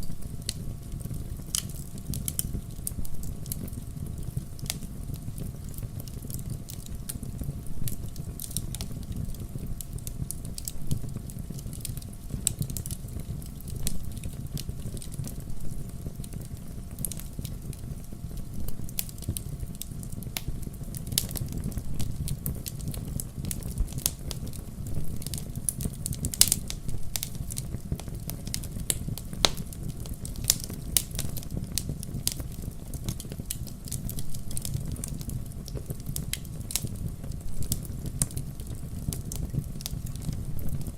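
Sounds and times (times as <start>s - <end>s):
logs crackling and popping: 0.0s - 40.9s
low rumble of flames: 0.0s - 40.9s.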